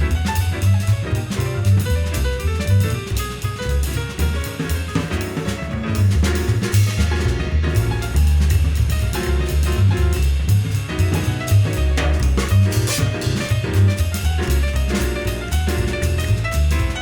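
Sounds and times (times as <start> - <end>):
jazz piano trio playing: 0.0 - 17.0.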